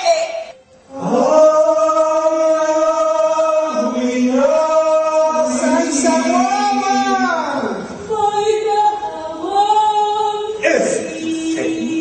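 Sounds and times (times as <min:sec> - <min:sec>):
chanted singing: 0:00.0 - 0:12.0.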